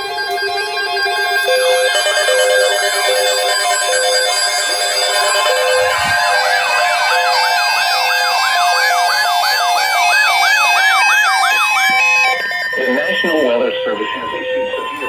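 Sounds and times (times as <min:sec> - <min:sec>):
wailing alert tone: 0:00.0 - 0:15.0
synthetic beeping tones: 0:01.0 - 0:15.0.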